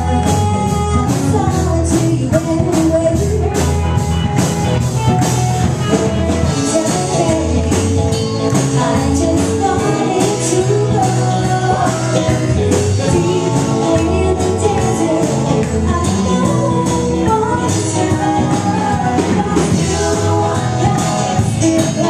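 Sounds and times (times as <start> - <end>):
person singing: 0.0 - 3.7, 6.4 - 22.0
drum kit beat: 0.0 - 22.0
electric guitars: 0.0 - 22.0.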